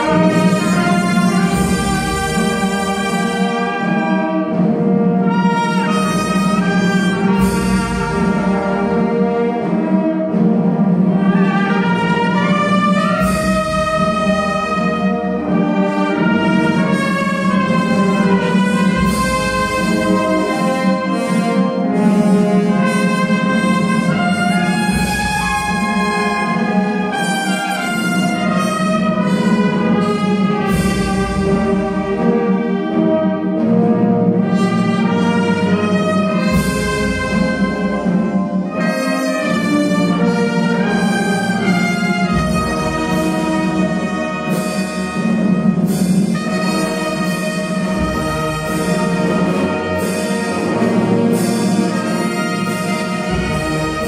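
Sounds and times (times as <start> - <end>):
wind band playing slow march: 0.0 - 54.0.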